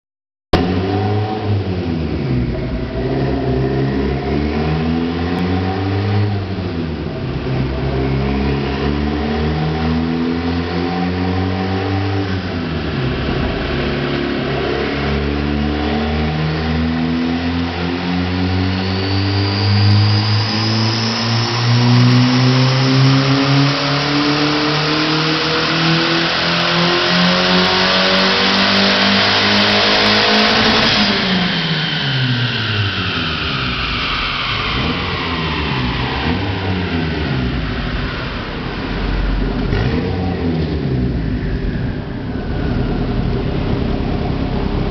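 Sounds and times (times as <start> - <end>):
car engine revving under load: 0.6 - 44.9
high turbo whine: 0.6 - 44.9.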